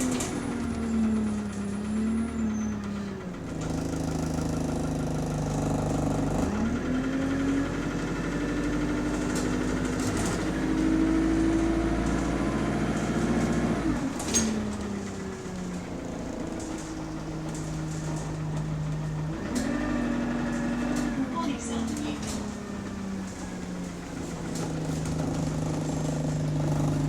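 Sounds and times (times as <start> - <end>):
bus diesel engine pulling: 0.0 - 27.0.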